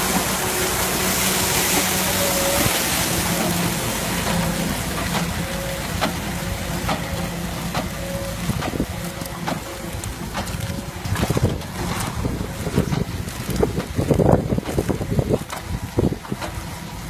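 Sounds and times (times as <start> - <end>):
tractor engine hum: 0.0 - 17.0.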